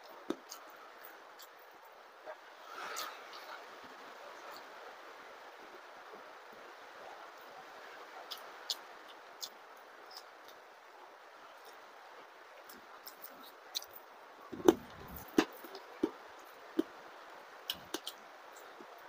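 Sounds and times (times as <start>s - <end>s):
light rain hiss: 0.0s - 19.0s.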